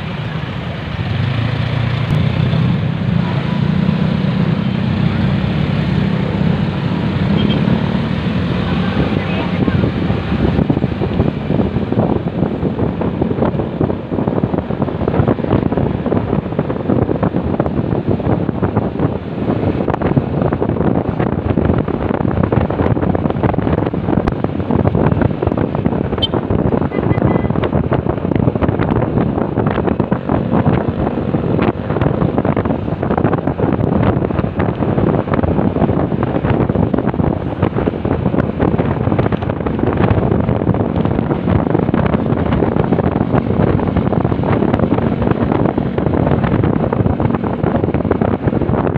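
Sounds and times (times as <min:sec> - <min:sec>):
motorcycle engine and road noise: 0:00.0 - 0:48.9
wind buffeting microphone: 0:00.0 - 0:48.9.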